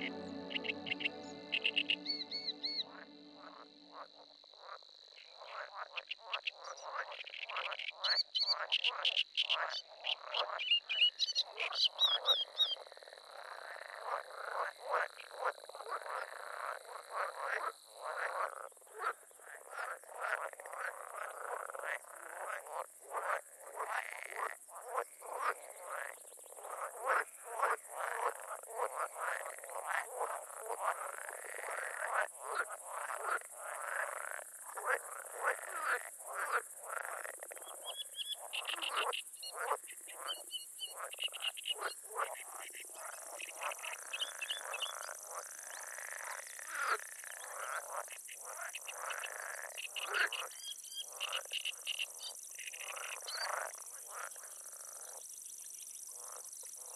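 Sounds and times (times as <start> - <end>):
frogs croaking: 0.0 - 56.9.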